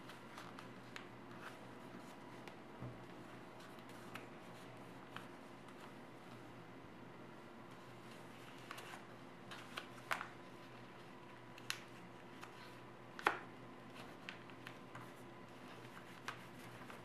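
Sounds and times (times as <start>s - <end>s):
paper crinkling as folded: 0.0s - 6.4s, 7.7s - 17.0s.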